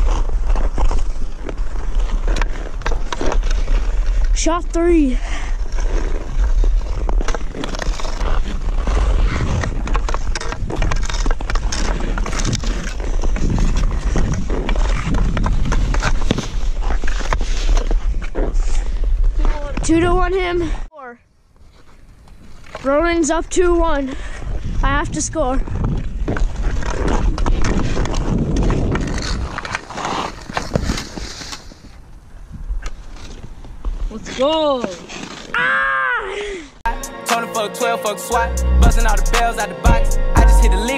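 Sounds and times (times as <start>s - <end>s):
skates scraping on ice: 0.0s - 20.7s, 21.6s - 35.7s
wind rumbling on microphone: 0.0s - 20.9s, 22.0s - 34.3s.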